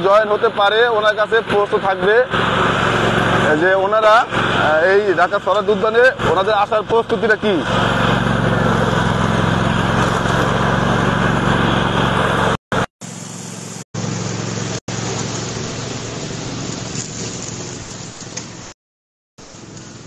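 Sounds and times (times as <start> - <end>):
riding lawn mower engine running: 0.0 - 18.8, 19.4 - 20.0.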